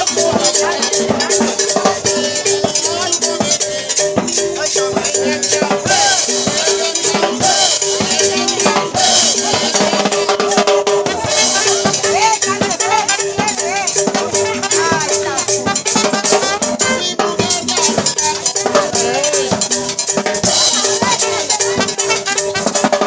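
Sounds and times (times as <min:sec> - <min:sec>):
live dance band playing: 0:00.0 - 0:23.0
shaken percussion: 0:00.0 - 0:23.0
steady drum beat: 0:00.0 - 0:23.0.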